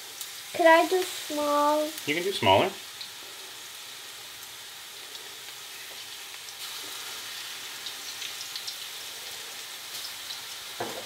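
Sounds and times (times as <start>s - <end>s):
food frying in hot oil: 0.0s - 11.0s
oil crackles and pops: 0.0s - 11.0s.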